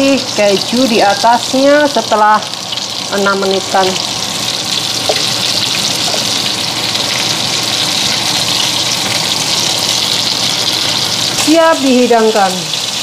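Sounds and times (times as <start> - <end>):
burger patties sizzling in a skillet: 0.0 - 13.0.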